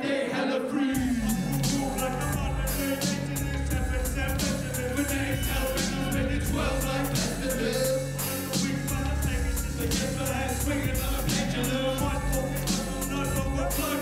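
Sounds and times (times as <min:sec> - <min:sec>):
rapping over a beat: 0:00.0 - 0:14.0
heavy bass: 0:01.0 - 0:14.0
steady drum pattern: 0:01.0 - 0:14.0.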